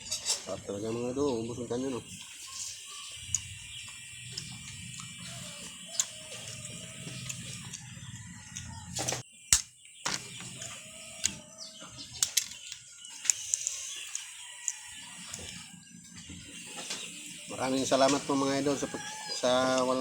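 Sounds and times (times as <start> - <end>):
high insect drone: 1.1 - 20.0.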